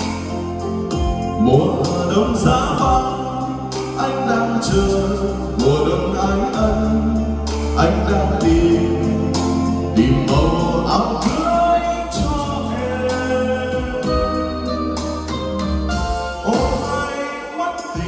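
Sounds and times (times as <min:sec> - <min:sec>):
karaoke backing track: 0:00.0 - 0:18.0
man singing into a microphone: 0:01.2 - 0:15.1, 0:16.4 - 0:18.0.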